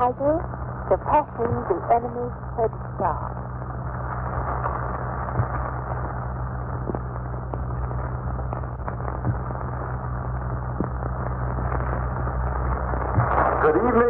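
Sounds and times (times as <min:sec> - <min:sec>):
crackles and pops: 0:00.0 - 0:14.0
low hum: 0:00.0 - 0:14.0
steady hiss: 0:00.0 - 0:14.0.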